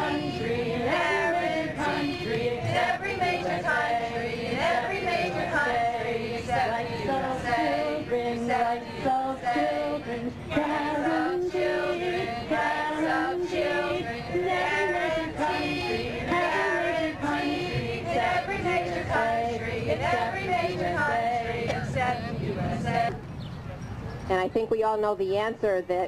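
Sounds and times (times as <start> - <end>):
women singing slow melody: 0.0 - 23.2.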